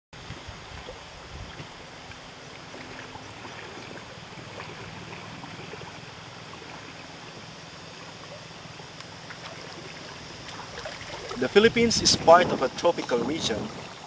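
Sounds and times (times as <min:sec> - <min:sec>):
wind: 0:00.1 - 0:14.0
gentle water: 0:00.2 - 0:14.0.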